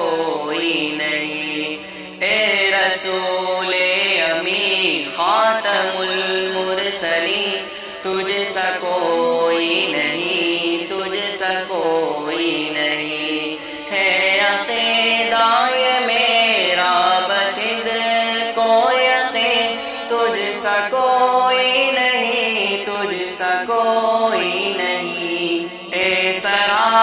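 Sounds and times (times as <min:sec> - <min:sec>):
man singing devotional chant: 0:00.0 - 0:27.0.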